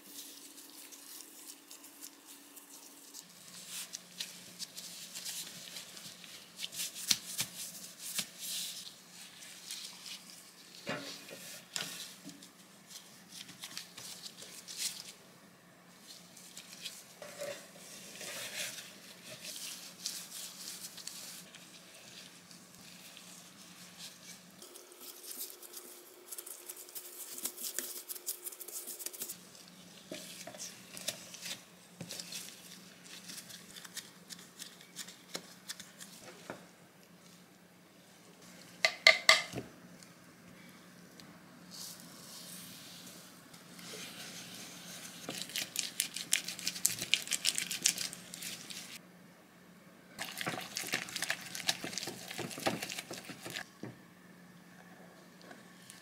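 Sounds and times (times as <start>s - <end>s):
hands kneading dough: 0.0s - 15.2s, 15.9s - 37.5s, 41.7s - 49.0s, 50.2s - 54.0s
faint steady hum: 0.0s - 56.0s.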